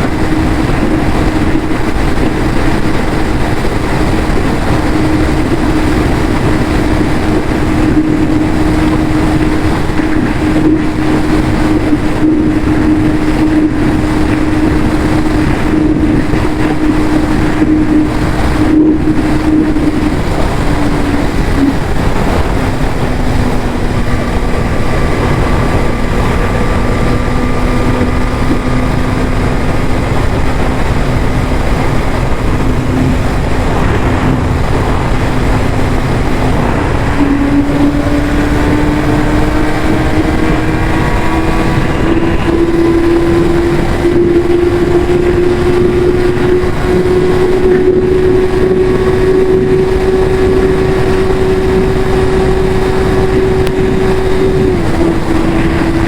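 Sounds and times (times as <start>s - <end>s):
motorcycle engine revving: 0.0s - 56.0s
rushing noise: 0.0s - 56.0s.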